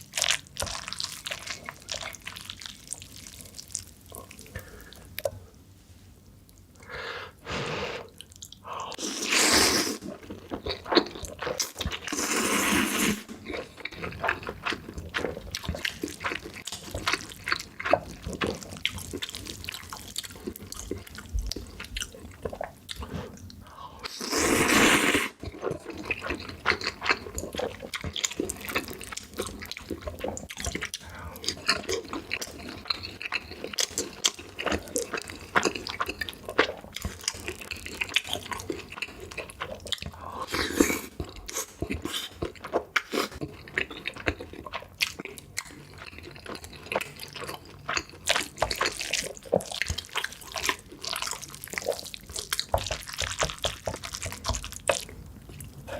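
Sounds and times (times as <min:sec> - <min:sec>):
wet chewing and mouth smacking: 0:00.0 - 0:05.4, 0:13.4 - 0:23.6, 0:25.4 - 0:55.9.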